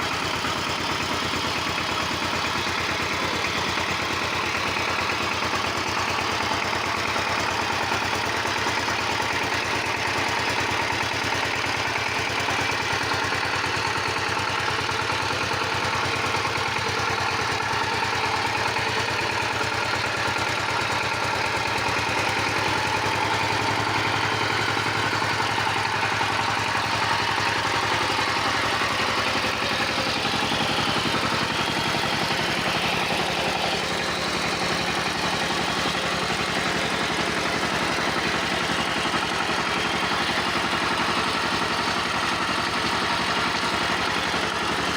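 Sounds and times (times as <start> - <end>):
power tiller engine idling: 0.0 - 44.9.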